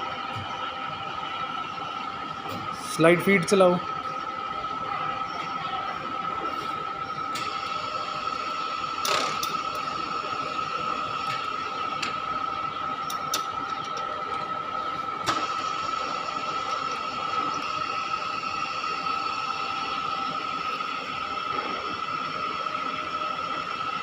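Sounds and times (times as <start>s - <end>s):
milling machine gear whine: 0.0s - 24.0s.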